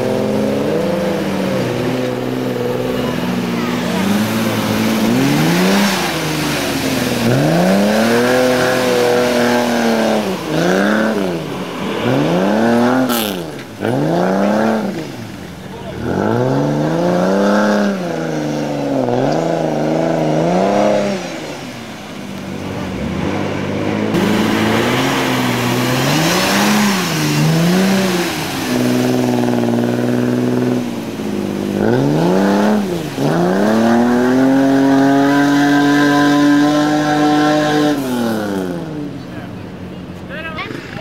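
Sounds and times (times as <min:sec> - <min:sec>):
car engine revving: 0:00.0 - 0:41.0
mud and water splashing: 0:00.0 - 0:41.0.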